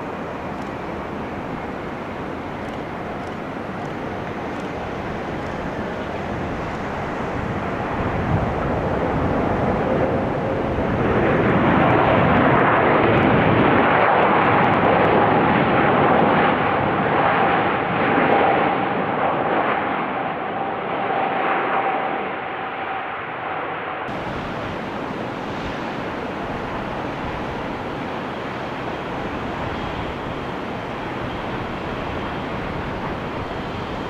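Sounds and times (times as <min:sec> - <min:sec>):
steady whine: 0:00.0 - 0:13.0, 0:19.0 - 0:34.0
airplane engines running loud: 0:00.0 - 0:34.0.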